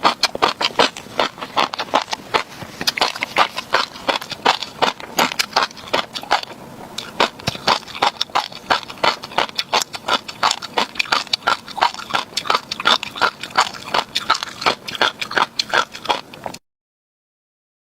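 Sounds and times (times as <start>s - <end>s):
chewing crunchy fish roe: 0.0s - 16.6s.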